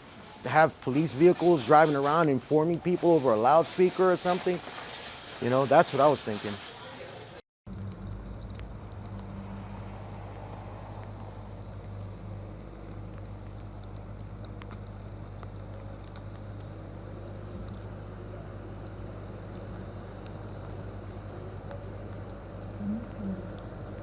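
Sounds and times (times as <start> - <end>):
vehicle engine humming: 3.6 - 24.0.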